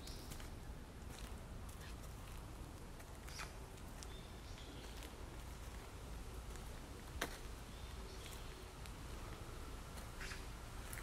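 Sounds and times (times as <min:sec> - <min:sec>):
footsteps on dry leaves: 0:00.2 - 0:11.0.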